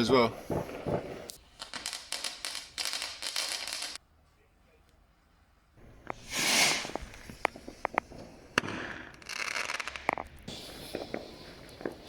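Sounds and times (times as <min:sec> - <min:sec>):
fireworks cracking and popping: 0:00.0 - 0:04.0, 0:05.8 - 0:12.0
fireworks hissing: 0:00.0 - 0:04.0, 0:05.8 - 0:12.0.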